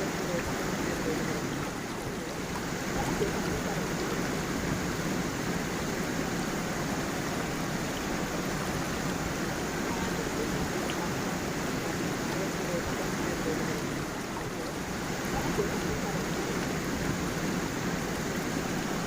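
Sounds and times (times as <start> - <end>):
water rushing over stones: 0.0 - 19.0.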